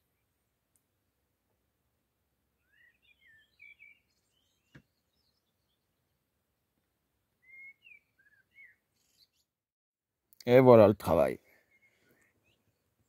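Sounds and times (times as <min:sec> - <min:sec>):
songbird chirps: 0:00.0 - 0:09.6, 0:10.2 - 0:13.0.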